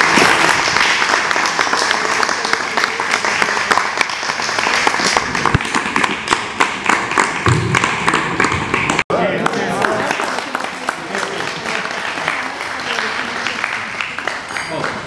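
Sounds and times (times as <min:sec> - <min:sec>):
people applauding: 0:00.0 - 0:15.0.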